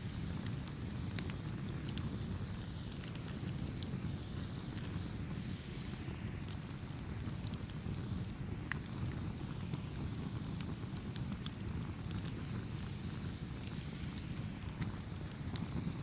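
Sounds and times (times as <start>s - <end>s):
burning wood popping and crackling: 0.0s - 16.0s
campfire rumbling: 0.0s - 16.0s.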